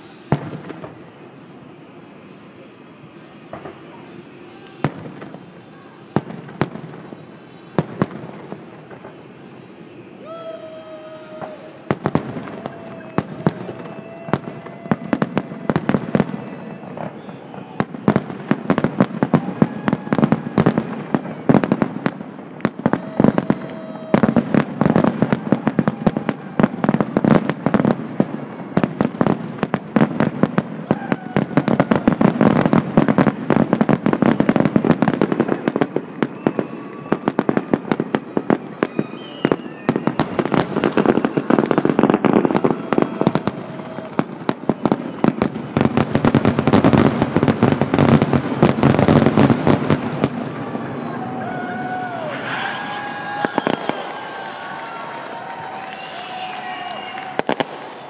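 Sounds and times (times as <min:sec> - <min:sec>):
fireworks bursts and crackles: 0:00.0 - 0:58.0.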